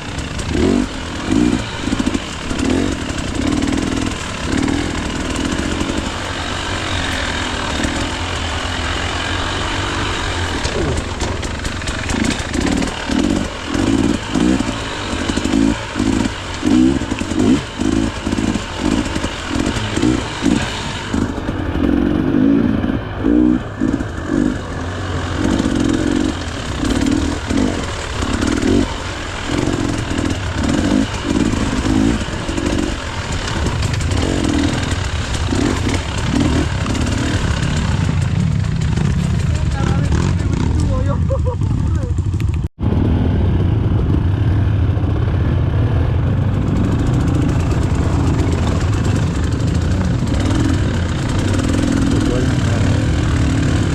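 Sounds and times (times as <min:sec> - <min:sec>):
two-stroke engine throttle blips: 0:00.0 - 0:53.9.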